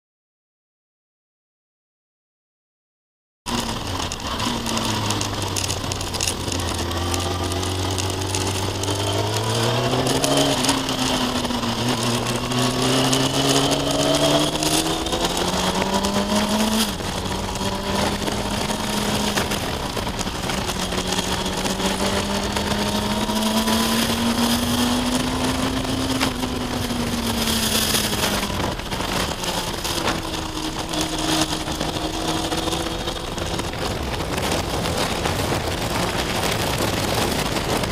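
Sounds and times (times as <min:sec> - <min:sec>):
motorcycle engine revving: 0:03.5 - 0:37.9
wind noise: 0:03.5 - 0:37.9.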